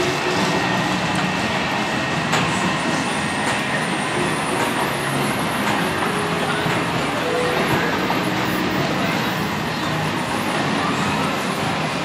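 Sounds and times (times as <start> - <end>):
roller coaster wheels rumbling: 0.0 - 12.0.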